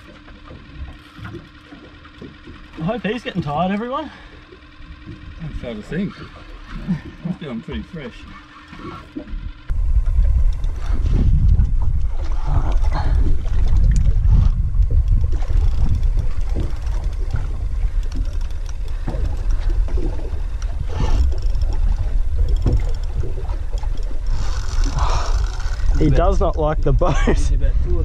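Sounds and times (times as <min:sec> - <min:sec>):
boat and gear knocking: 0:00.0 - 0:28.0
wind and water against hull: 0:00.0 - 0:28.0.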